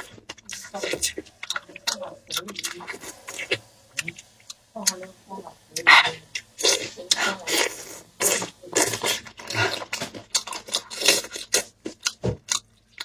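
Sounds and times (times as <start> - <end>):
wet chewing and lip-smacking: 0.0 - 5.1, 5.7 - 13.0.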